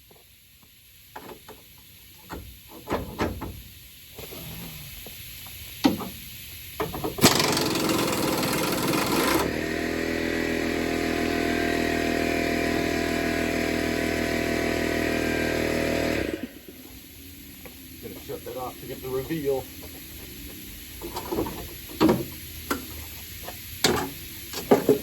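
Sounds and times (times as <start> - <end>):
loud rushing air hiss: 3.4 - 25.0
air compressor motor running: 3.6 - 25.0.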